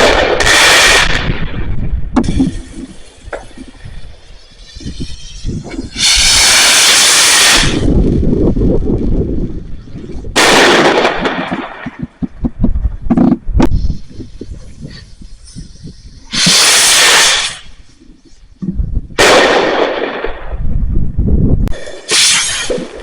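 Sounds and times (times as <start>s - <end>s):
hissing fireworks bursts: 0.0s - 8.8s, 9.6s - 12.4s, 13.6s - 18.5s, 19.2s - 20.5s, 21.7s - 23.0s
fireworks bangs and crackling: 0.0s - 8.9s, 10.2s - 21.0s.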